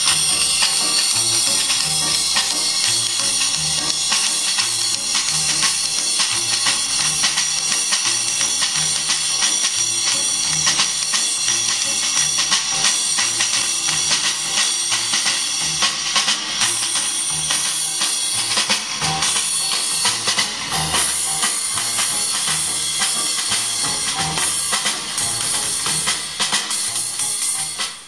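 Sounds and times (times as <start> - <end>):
music with drum beat and tambourine: 0.0 - 28.0.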